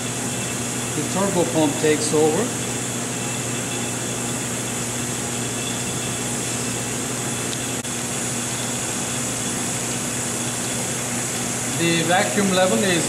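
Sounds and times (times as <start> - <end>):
vacuum pumps humming: 0.0 - 13.0.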